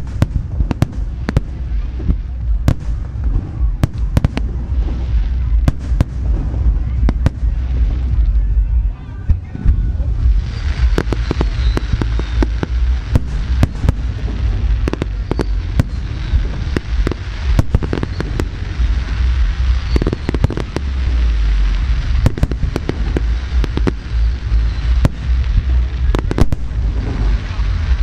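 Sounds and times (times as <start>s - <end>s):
fireworks bangs and crackles: 0.0s - 28.0s
low rumble and hissing: 0.0s - 28.0s.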